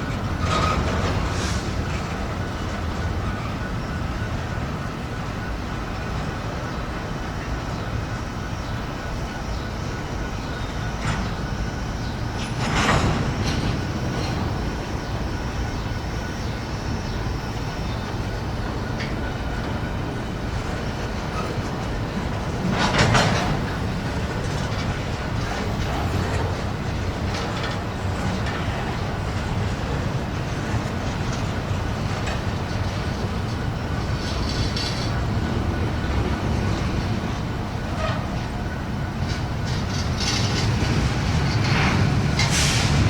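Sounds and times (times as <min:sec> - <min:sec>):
freight train wheels clacking: 0:00.0 - 0:43.0.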